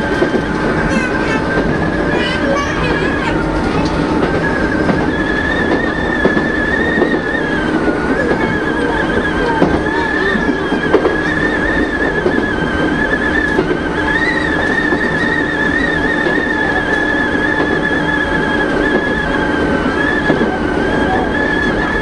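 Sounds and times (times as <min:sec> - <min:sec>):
electric train motor whine: 0:00.0 - 0:22.0
train wheels rumbling: 0:00.0 - 0:22.0.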